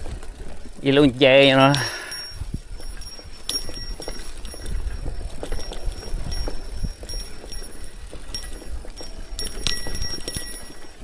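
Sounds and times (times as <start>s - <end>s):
bike clattering over rough trail: 0.0s - 11.0s
wind on microphone: 1.6s - 11.0s.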